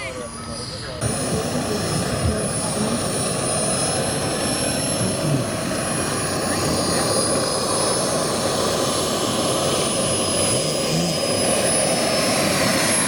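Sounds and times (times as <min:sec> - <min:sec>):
model aircraft engine droning: 0:00.0 - 0:13.0.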